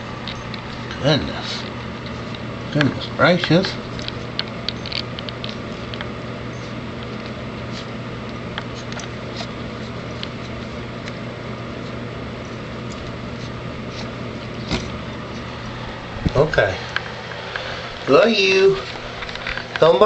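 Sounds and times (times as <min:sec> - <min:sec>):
heater humming: 0:00.0 - 0:20.0.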